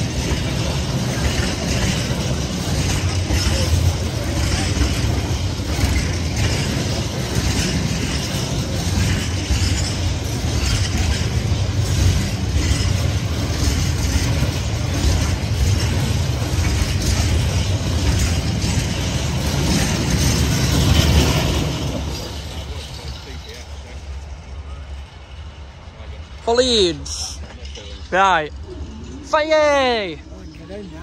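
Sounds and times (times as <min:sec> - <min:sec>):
train wheels clattering: 0:00.0 - 0:31.0.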